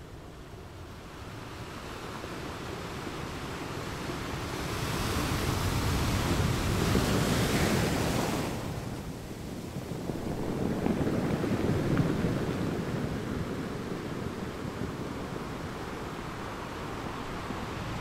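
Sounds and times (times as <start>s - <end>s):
wind on microphone: 1.0s - 18.0s.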